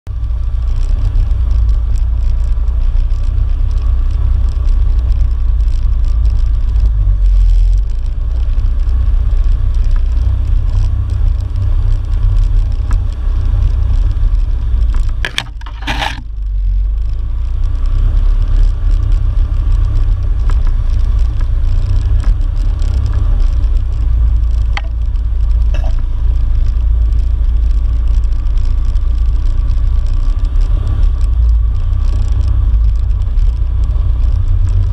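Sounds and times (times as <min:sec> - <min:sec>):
off-road vehicle engine rumble: 0:00.0 - 0:34.9.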